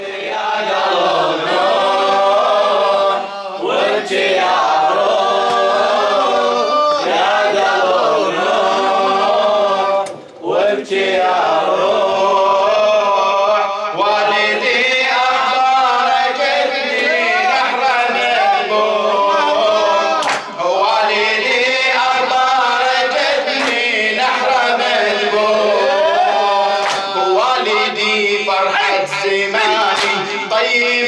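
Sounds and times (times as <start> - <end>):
men chanting a lament: 0.0 - 31.0.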